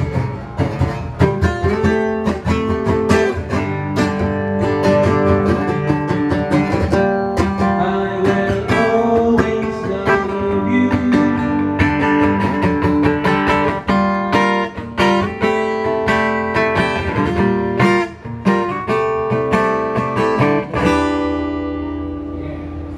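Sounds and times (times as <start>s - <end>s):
acoustic guitar strumming: 0.0s - 22.9s.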